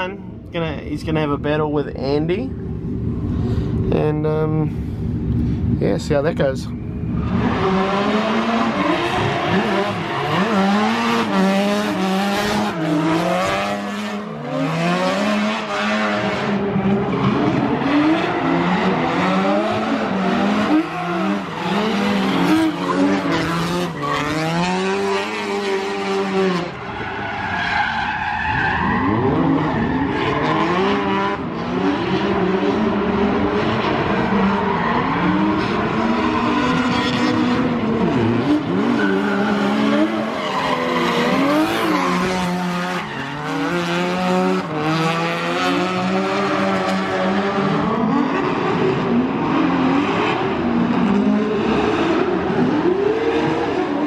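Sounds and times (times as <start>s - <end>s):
car engines revving hard: 5.0s - 54.0s
tyres skidding and squealing: 6.1s - 54.0s.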